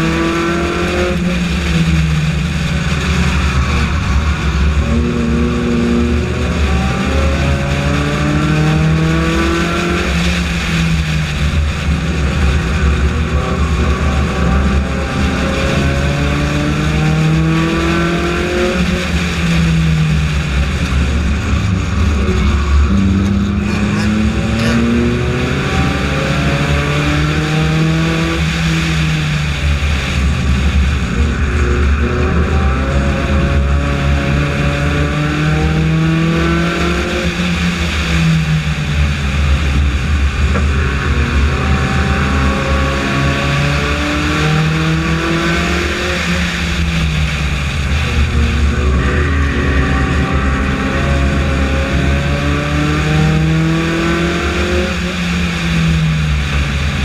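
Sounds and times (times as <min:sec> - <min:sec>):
other race car engines: 0:00.0 - 0:57.0
race car engine revving: 0:00.0 - 0:57.0.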